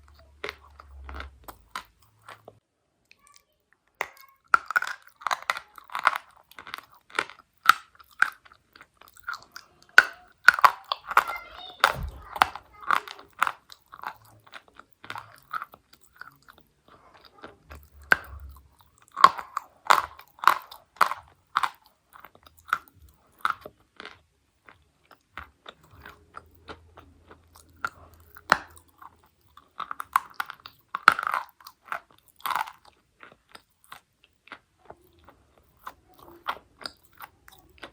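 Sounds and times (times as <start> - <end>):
chewing crunchy chalk: 4.1 - 37.9.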